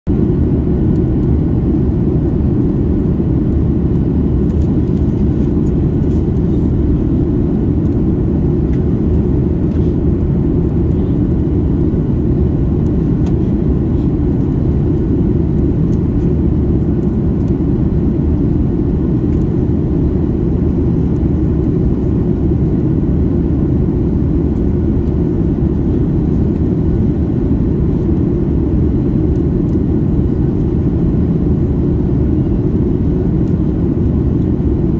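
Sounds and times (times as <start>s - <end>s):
airflow over aircraft fuselage: 0.1s - 34.9s
jet engines droning: 0.1s - 34.9s.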